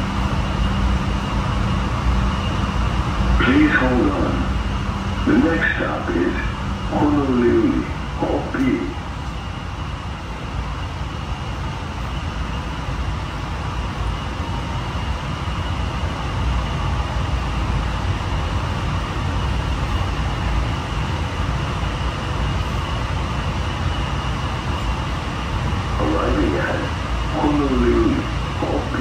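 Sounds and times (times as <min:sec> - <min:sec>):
train interior low rumble: 0:00.0 - 0:29.0.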